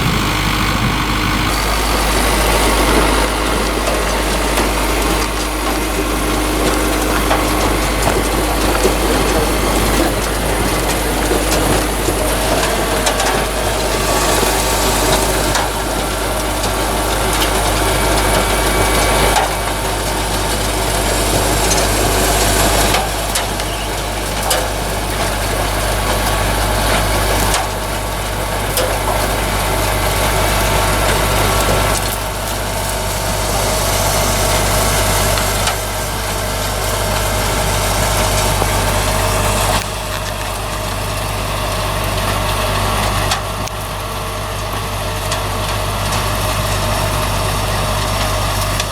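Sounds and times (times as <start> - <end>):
harvesting machine engine running: 0.0 - 48.9
machinery clattering and knocking: 0.0 - 48.9.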